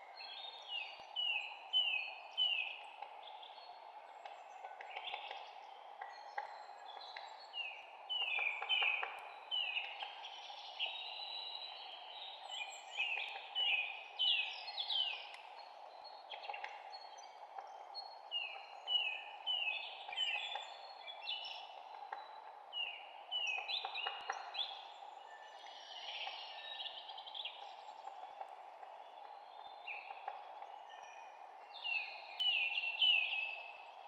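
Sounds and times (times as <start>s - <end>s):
background hiss: 0.0s - 34.0s
songbirds chirping and singing: 0.0s - 34.0s.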